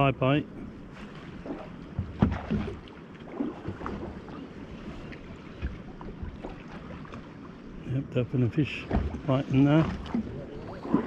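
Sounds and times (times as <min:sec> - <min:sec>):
sea water slapping a boat: 0:00.0 - 0:11.0.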